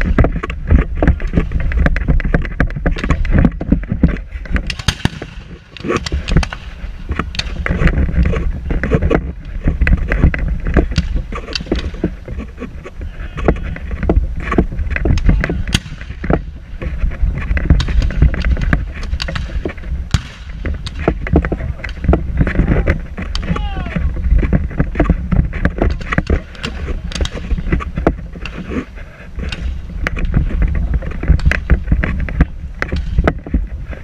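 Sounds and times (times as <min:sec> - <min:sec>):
sharp cracks and knocks: 0:00.0 - 0:34.0
wind buffeting microphone: 0:00.0 - 0:34.0.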